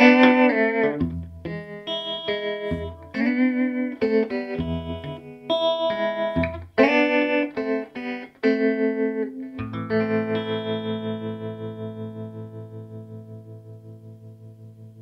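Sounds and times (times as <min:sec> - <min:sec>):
electric guitar with tremolo: 0:00.0 - 0:15.0.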